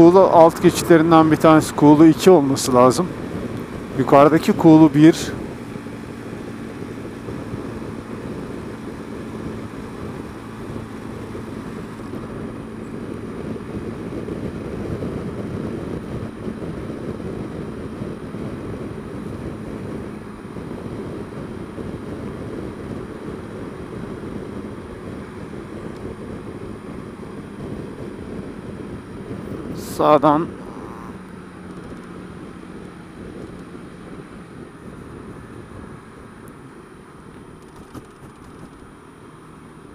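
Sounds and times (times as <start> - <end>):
scooter engine drone: 0.0 - 39.9
wind rushing over microphone: 0.0 - 39.9.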